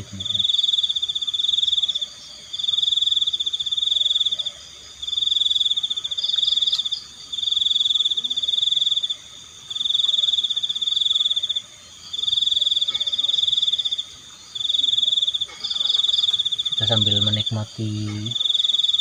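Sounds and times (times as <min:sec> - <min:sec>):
crickets chirping: 0:00.0 - 0:19.0
frogs croaking: 0:00.0 - 0:19.0.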